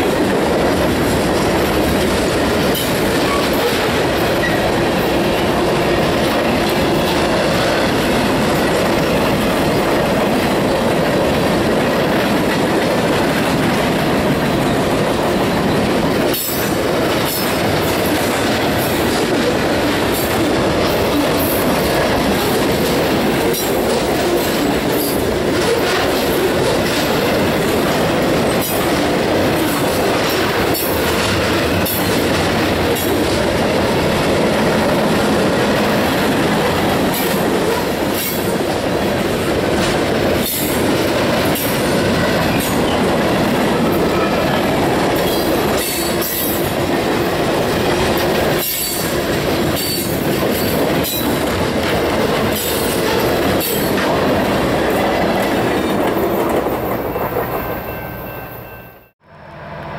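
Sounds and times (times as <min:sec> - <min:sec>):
wheels clacking over rail joints: 0:00.0 - 0:58.1
train wheels rumbling on rails: 0:00.0 - 0:59.9.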